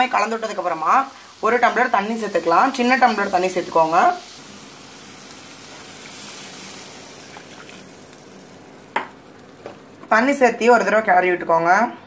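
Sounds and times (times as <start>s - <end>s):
water hissing in hot pan: 0.0s - 10.0s.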